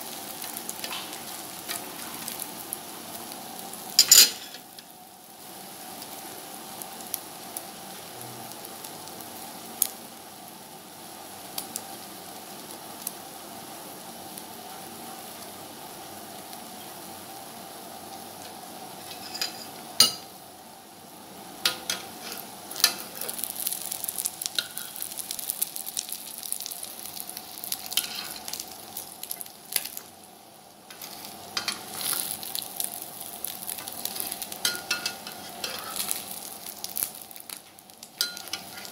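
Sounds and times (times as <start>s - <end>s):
omelette sizzling in oil: 0.0s - 38.9s.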